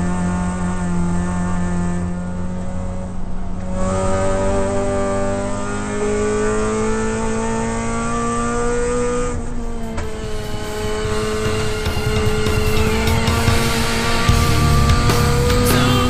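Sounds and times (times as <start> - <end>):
race car engine under load: 0.0 - 16.0.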